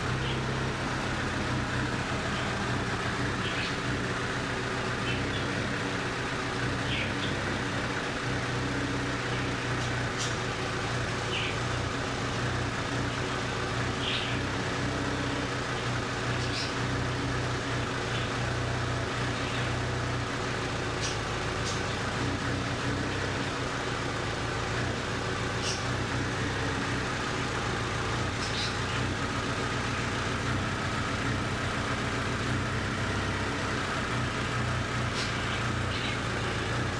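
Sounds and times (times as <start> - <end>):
car engine idling roughly: 0.0 - 36.9.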